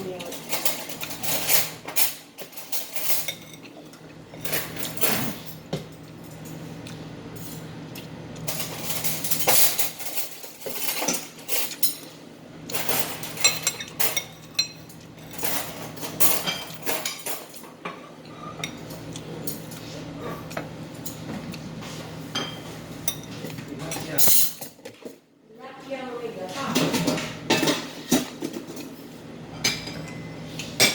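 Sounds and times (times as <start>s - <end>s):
cutlery clinking against dishes: 0.0s - 6.6s, 8.4s - 25.2s, 26.6s - 29.0s, 29.6s - 30.9s.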